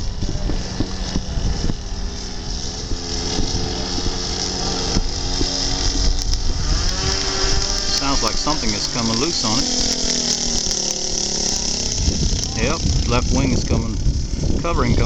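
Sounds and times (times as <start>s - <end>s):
model airplane motor droning: 0.0s - 15.0s
wind buffeting microphone: 0.0s - 15.0s
wing covering flapping: 0.0s - 15.0s.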